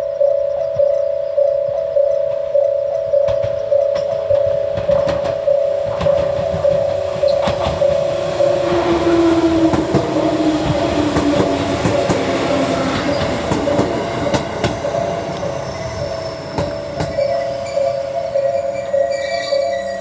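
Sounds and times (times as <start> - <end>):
electric train slowing: 0.0 - 20.0
level crossing alarm ringing: 0.0 - 20.0
wheels clacking over rail joints: 0.6 - 20.0.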